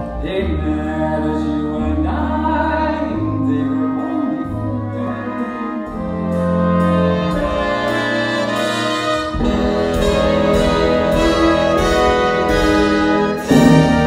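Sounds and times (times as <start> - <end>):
orchestral music with singing: 0.0 - 14.0.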